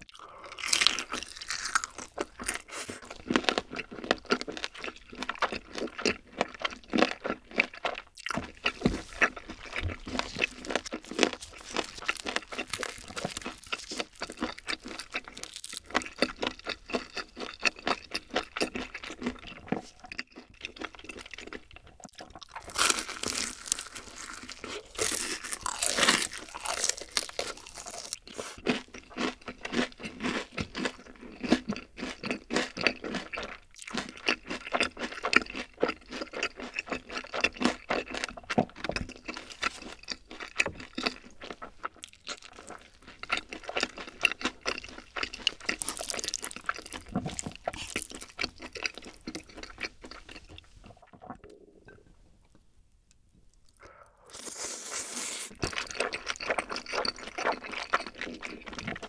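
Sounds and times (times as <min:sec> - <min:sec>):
crunching and chewing fried chicken: 0:00.0 - 0:51.6, 0:53.4 - 0:59.0.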